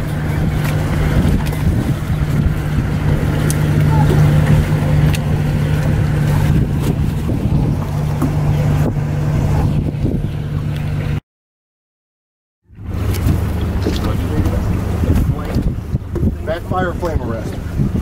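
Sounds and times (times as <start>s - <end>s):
motorboat engine idling: 0.0s - 11.2s, 12.7s - 18.0s
water noise: 0.0s - 11.2s, 12.7s - 18.0s
wind: 0.0s - 11.2s, 12.6s - 18.0s.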